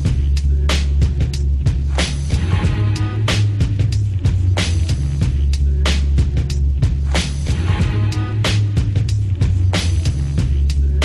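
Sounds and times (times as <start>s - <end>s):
background music with bass and drums: 0.0s - 11.0s.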